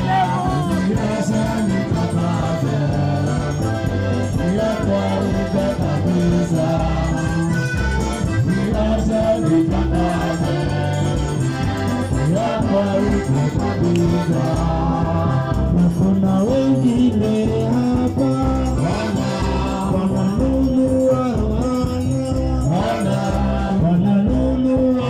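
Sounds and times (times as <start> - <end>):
heavy bass line: 0.0 - 25.0
live band music: 0.0 - 25.0
voices singing together: 0.0 - 25.0.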